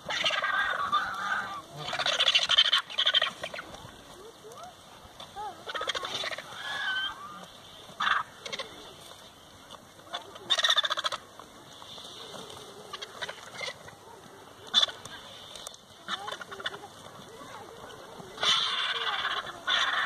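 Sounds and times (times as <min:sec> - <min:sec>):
vultures harsh rattling calls: 0:00.0 - 0:04.0, 0:05.4 - 0:09.0, 0:10.1 - 0:20.0.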